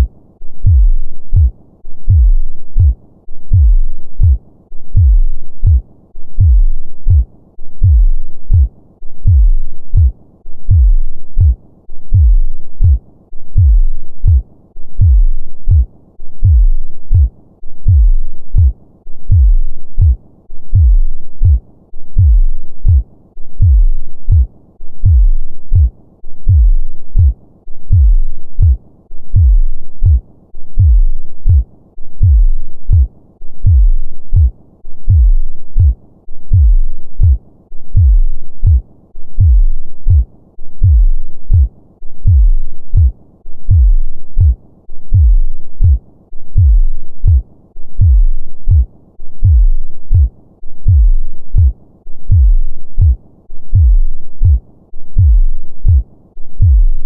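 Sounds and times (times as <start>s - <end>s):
human heartbeat: 0.0s - 5.8s, 6.4s - 14.4s, 15.0s - 47.4s, 48.0s - 57.0s.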